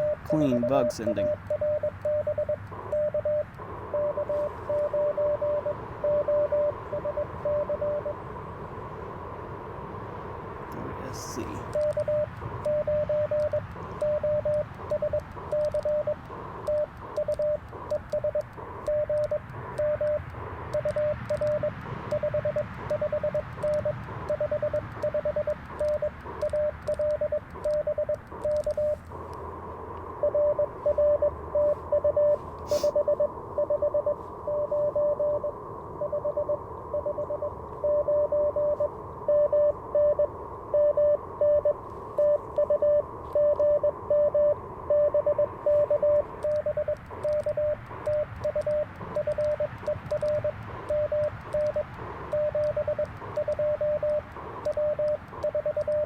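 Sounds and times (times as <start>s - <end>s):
morse code tone: 0.0s - 8.2s, 10.8s - 29.3s, 30.1s - 56.0s
radio band noise hiss: 0.0s - 56.0s.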